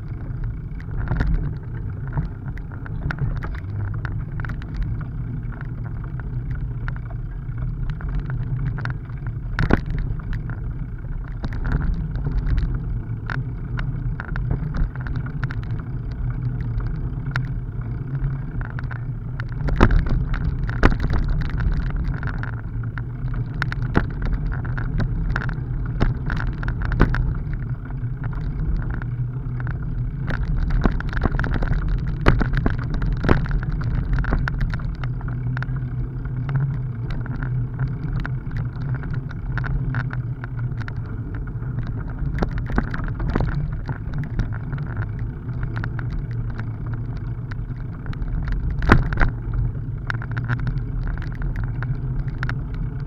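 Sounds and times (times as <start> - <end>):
bicycle knocking and rattling: 0.0 - 53.0
bicycle tyres rumbling on dirt: 0.0 - 53.0.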